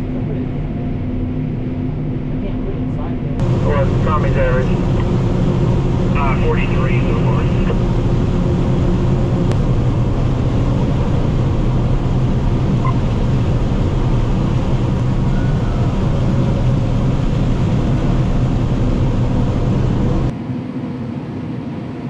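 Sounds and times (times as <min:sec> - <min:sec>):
harvester engine and machinery hum: 0:03.4 - 0:21.9.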